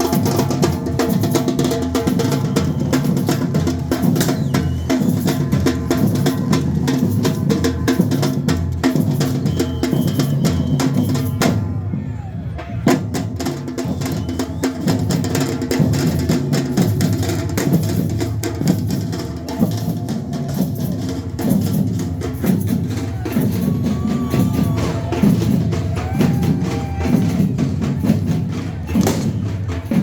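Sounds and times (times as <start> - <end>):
bass drum and snare beating: 0.0 - 11.8, 12.8 - 30.0
marching band playing: 0.0 - 30.0.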